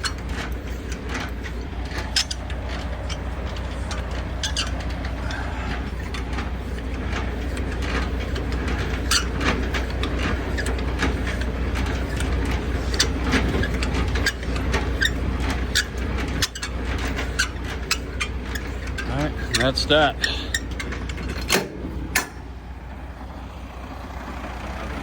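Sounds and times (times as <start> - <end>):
metallic clicks and knocks: 0.0 - 22.5
diesel truck engine idling: 0.0 - 25.0.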